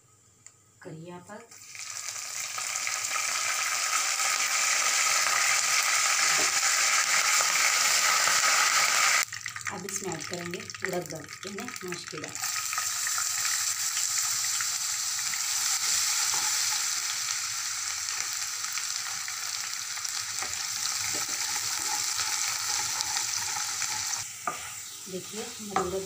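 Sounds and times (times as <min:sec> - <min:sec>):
lentils sizzling in hot oil: 0:01.5 - 0:26.0.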